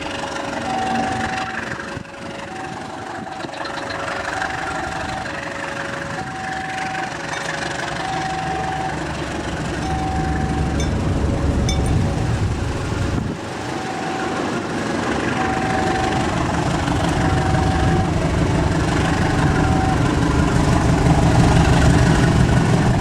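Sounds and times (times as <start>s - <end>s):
two-tone warning alarm: 0.0s - 22.7s
diesel locomotive rumbling: 0.0s - 23.0s.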